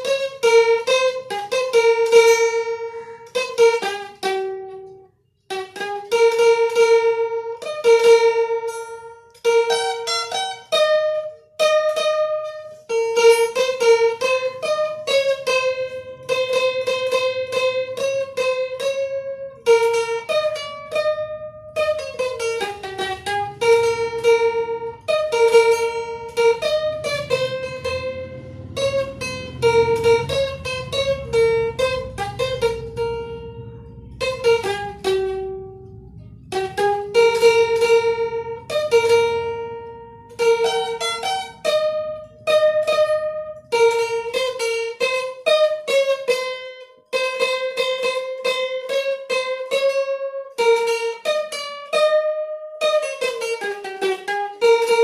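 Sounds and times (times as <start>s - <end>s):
mandolin tremolo melody: 0.0s - 55.0s.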